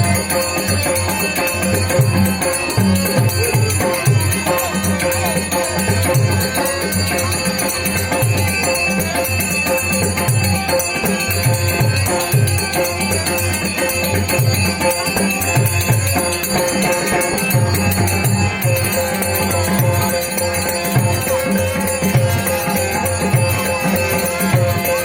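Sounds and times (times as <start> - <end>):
jingling hand cymbals: 0.0 - 25.0.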